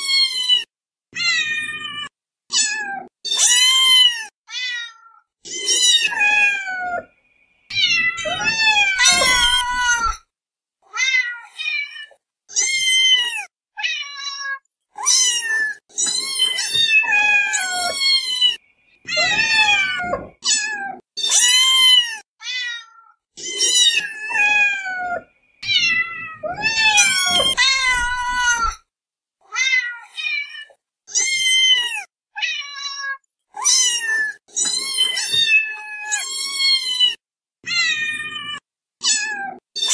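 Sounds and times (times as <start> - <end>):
kittens meowing: 0.0 - 7.1, 7.7 - 10.2, 11.0 - 28.8, 31.2 - 39.9.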